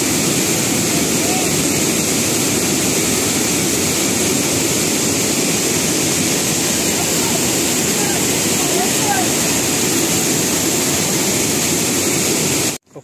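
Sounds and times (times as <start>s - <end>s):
water roaring over weir: 0.0s - 13.0s.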